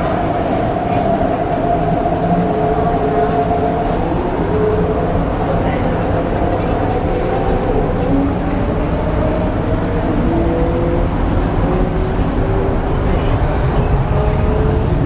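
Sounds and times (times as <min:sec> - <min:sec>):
train rumble on board: 0:00.0 - 0:15.0.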